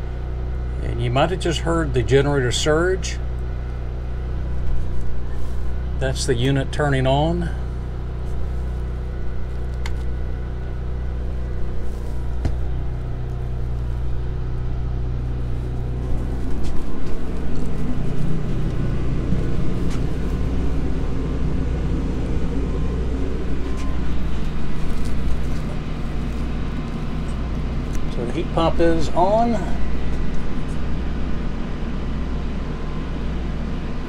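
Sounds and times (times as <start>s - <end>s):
generator humming: 0.0s - 34.0s
heat pump running: 0.0s - 34.0s.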